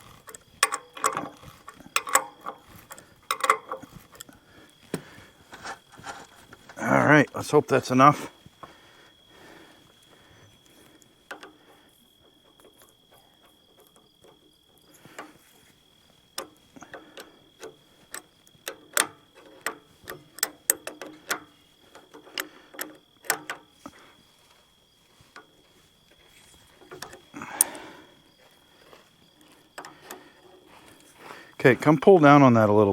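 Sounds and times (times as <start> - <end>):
hand tools clicking on metal fittings: 0.0 - 8.8, 9.4 - 32.8.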